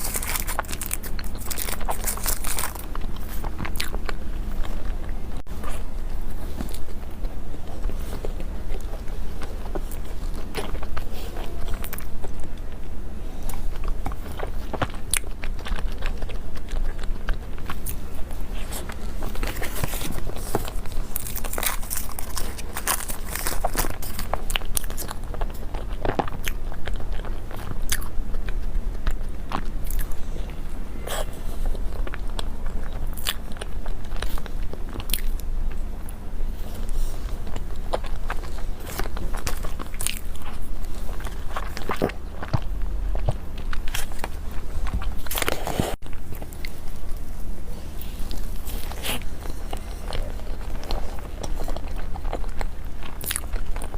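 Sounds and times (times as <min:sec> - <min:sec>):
biting and chewing: 0:00.0 - 0:53.9
low hum: 0:00.0 - 0:53.9.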